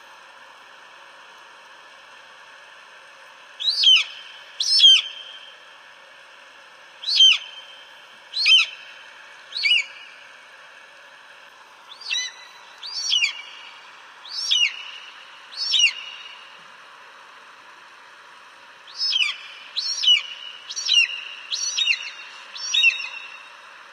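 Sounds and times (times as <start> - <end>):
steady hiss: 0.0 - 23.9.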